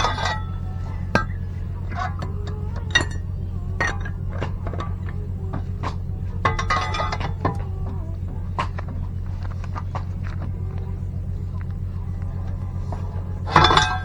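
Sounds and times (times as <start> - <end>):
metal tools clinking: 0.0 - 10.3, 11.5 - 14.0
steady low hum: 0.0 - 14.0.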